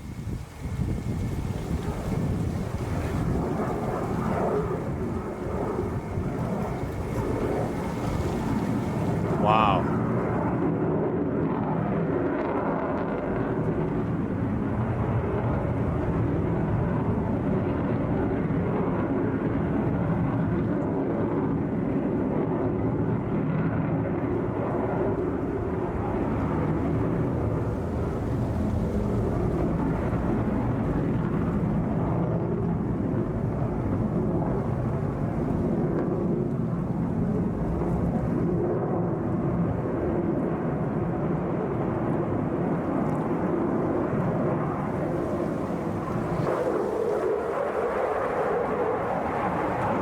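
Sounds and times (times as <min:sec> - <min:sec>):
jet engine roar: 0:00.0 - 0:10.8, 0:13.0 - 0:19.9, 0:24.2 - 0:50.0.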